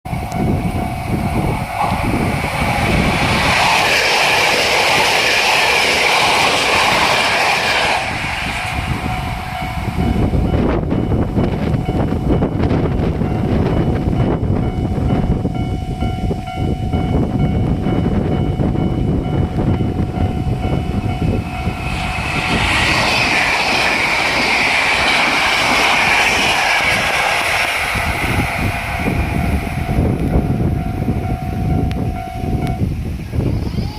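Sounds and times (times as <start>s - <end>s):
wind buffeting microphone: 0.0s - 33.9s
level crossing alarm ringing: 0.1s - 6.6s, 7.2s - 23.6s, 27.8s - 32.9s
electric train rushing past: 0.1s - 33.9s.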